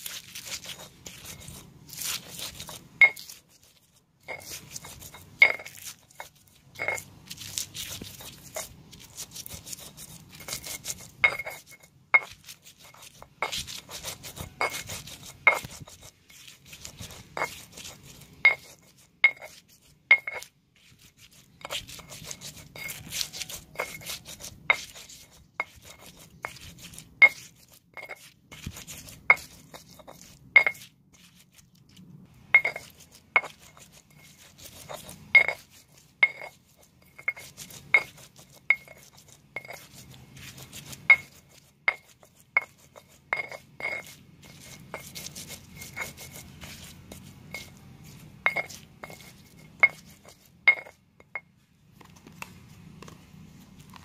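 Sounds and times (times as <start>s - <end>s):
gritty rubbing of pestle: 0.0s - 54.0s
stone pestle clinking in mortar: 0.1s - 31.3s, 32.5s - 51.5s.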